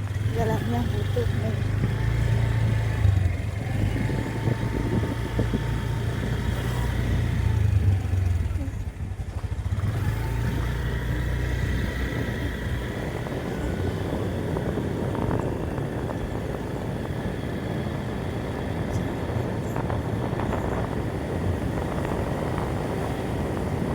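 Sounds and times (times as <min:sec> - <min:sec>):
low engine hum: 0:00.0 - 0:23.9
road and wind noise: 0:00.0 - 0:23.9.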